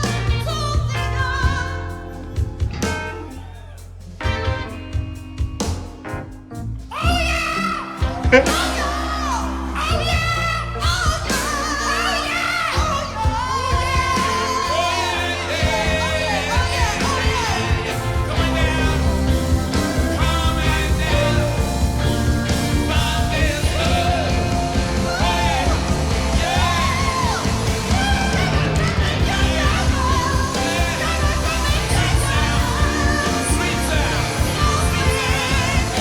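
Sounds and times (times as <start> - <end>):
live rock band playing: 0.0 - 36.0
shouting vocal duet: 6.9 - 36.0.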